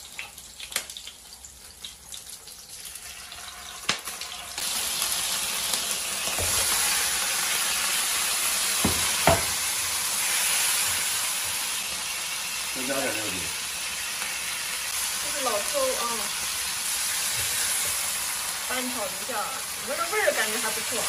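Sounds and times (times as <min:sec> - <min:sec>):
meat sizzling in hot oil: 0:00.0 - 0:21.0.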